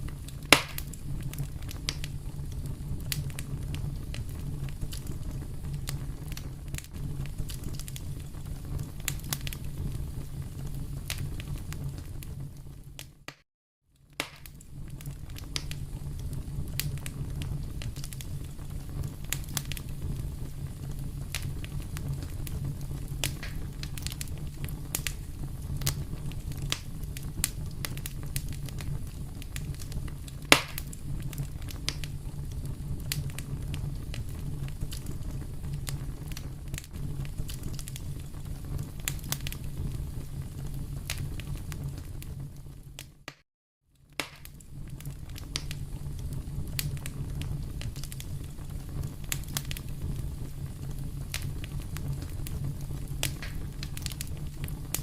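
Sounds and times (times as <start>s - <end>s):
low rumble of flames: 0.0s - 13.3s, 14.0s - 43.3s, 44.0s - 55.0s
fire crackles and pops: 0.0s - 43.4s, 44.0s - 55.0s.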